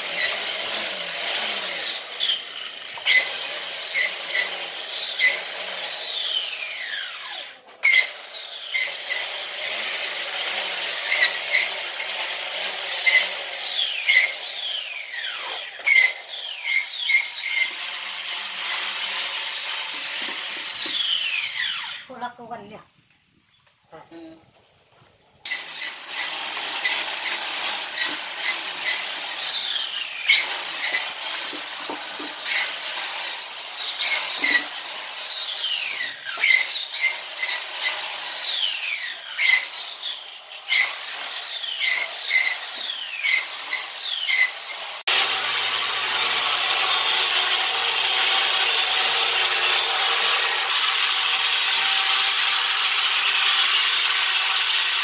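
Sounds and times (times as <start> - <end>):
angle grinder whining: 0.0 - 22.2, 25.5 - 55.0
rough grinding on concrete: 0.0 - 22.3, 25.4 - 55.0.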